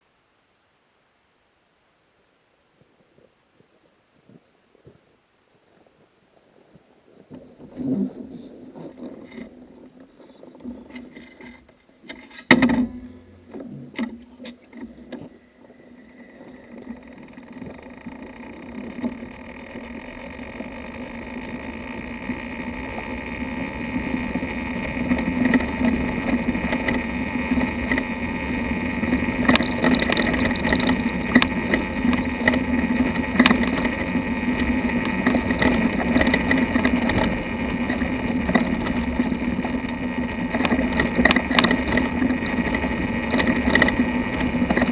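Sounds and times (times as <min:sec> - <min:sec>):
wind and tyre noise: 0:02.7 - 0:44.9.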